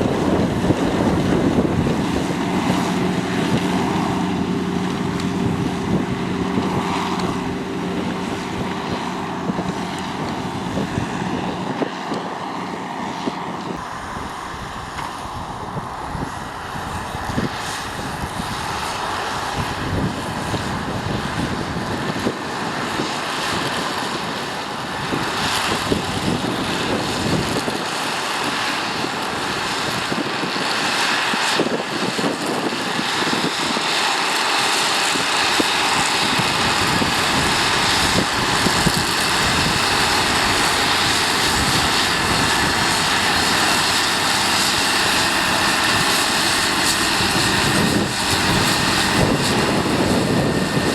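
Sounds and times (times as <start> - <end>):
tractor engine droning: 0.0 - 50.9.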